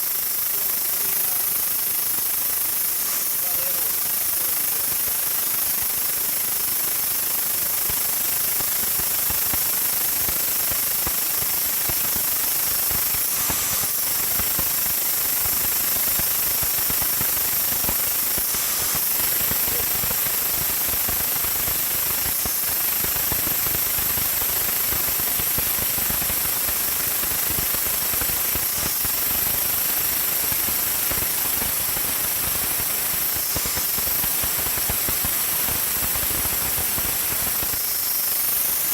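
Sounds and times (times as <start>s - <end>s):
machine tool cutting metal: 0.0s - 38.9s.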